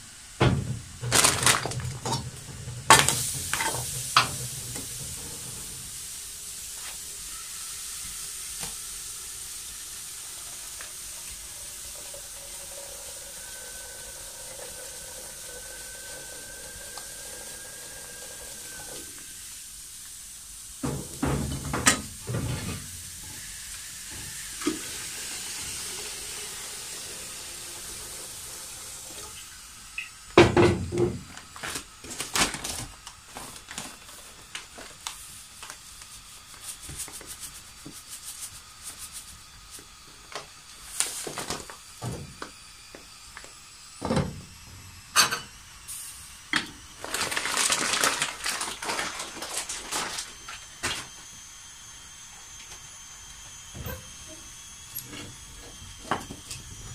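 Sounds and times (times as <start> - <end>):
steady hiss: 0.0 - 53.7.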